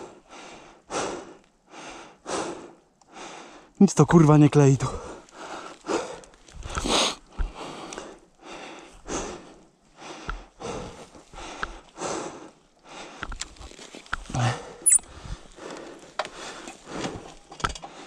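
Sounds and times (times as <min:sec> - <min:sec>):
heavy panting breaths: 0:00.0 - 0:03.8, 0:04.8 - 0:18.0.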